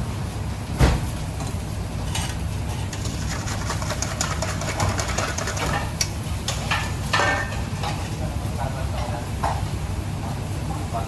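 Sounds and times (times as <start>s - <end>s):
kitchen machinery humming: 1.2s - 11.0s.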